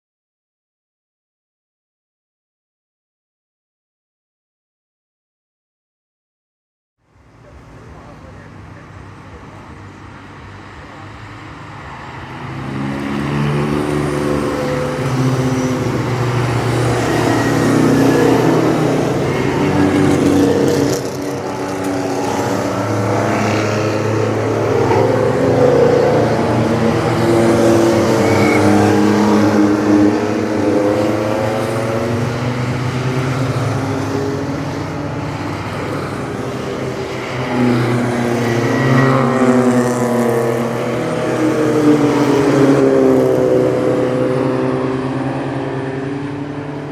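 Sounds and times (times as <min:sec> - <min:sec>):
racing car engines passing: 0:07.1 - 0:46.9.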